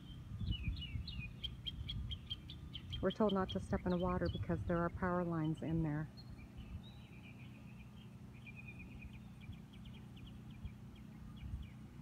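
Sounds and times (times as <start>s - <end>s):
distant generators humming: 0.0s - 12.0s.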